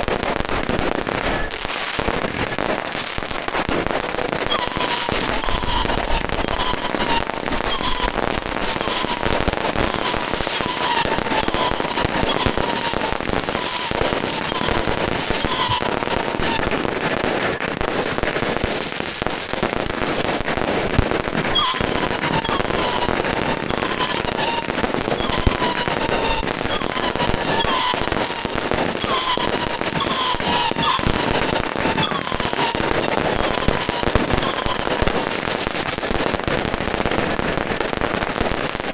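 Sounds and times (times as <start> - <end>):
falling firework whistles: 0.0 - 38.9
firecrackers crackling: 0.0 - 38.9.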